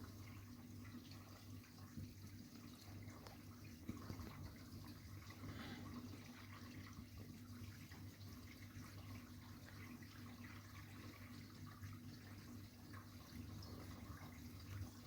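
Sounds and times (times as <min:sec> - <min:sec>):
low hum of wash pump: 0:00.0 - 0:15.0.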